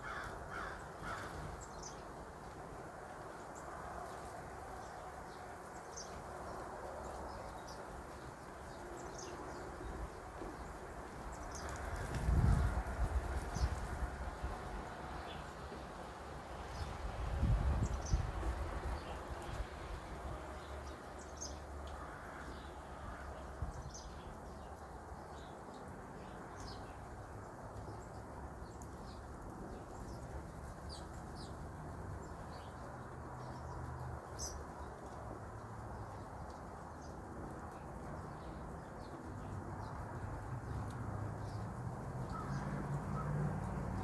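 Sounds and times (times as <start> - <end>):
wild birds chirping: 0.0 - 44.0.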